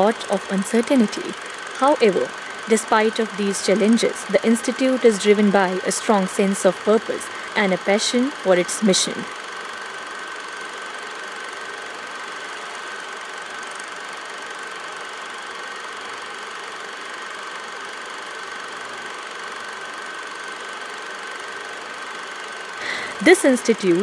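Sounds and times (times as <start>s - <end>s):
film projector whirring: 0.0s - 24.0s.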